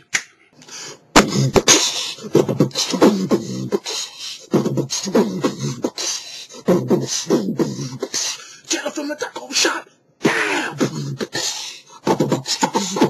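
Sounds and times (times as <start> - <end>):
man beatboxing: 1.2 - 13.0.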